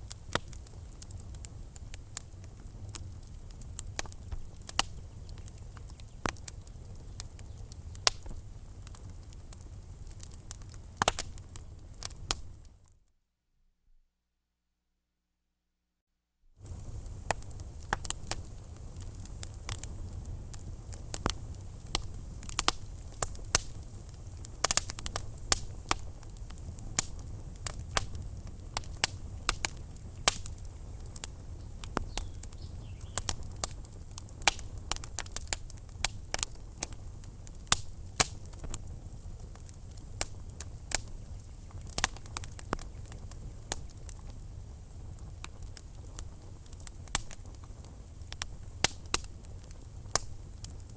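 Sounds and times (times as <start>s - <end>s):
low rumble of flames: 0.0s - 12.8s, 16.6s - 50.9s
wood fire pops and snaps: 0.0s - 12.8s, 16.6s - 50.9s.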